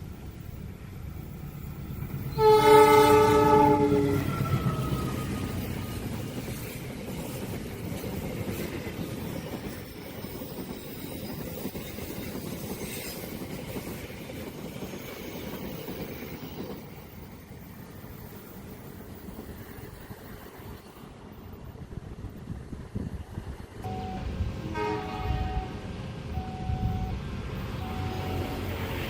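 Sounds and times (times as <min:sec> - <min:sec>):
train wagons rolling on rails: 0:00.0 - 0:29.0.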